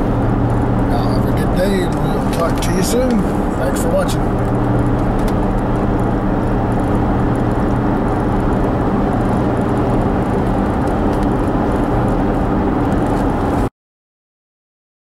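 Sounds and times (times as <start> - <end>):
car engine hum: 0.0 - 13.7
road noise: 0.0 - 13.7.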